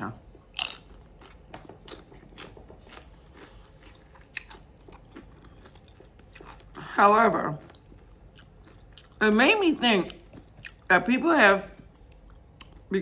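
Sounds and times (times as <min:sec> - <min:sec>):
chewing crunchy food: 0:00.2 - 0:10.9, 0:11.8 - 0:12.9.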